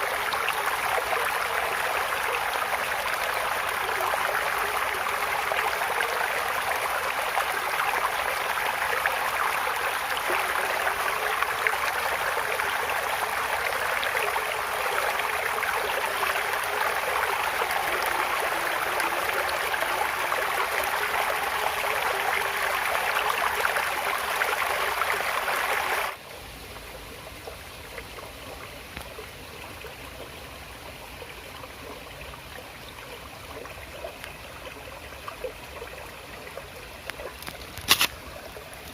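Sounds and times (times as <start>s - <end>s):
stream water rushing: 0.0s - 38.9s
water trickling: 0.0s - 38.9s.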